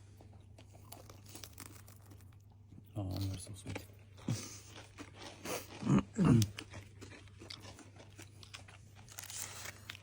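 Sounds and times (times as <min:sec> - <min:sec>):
person chewing crispy pastry: 0:00.0 - 0:10.0.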